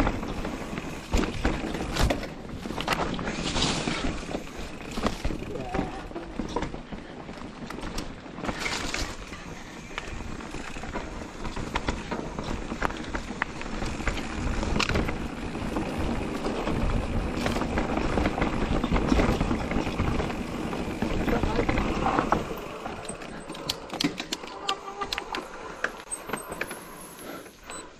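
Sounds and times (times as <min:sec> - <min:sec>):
bike chain and frame rattling: 0:00.0 - 0:27.8
bike tyres on dirt trail: 0:00.0 - 0:27.9.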